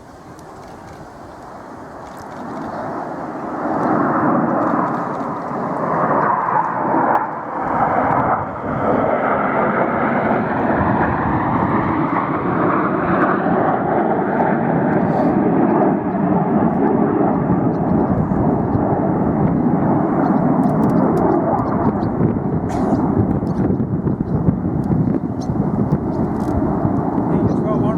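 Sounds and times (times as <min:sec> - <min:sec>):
jet roar flying past: 0:00.0 - 0:27.9.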